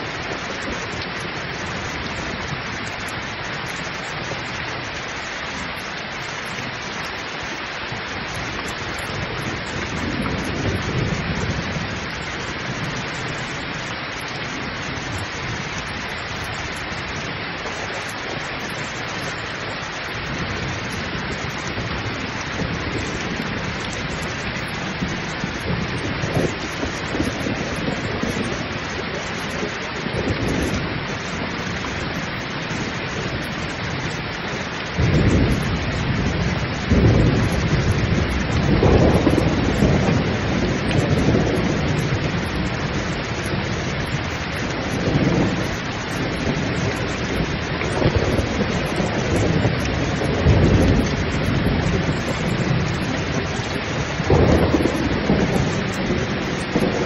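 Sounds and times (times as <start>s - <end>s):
pouring rain: 0.0s - 57.0s
thunder crack and rumbles: 0.0s - 57.0s.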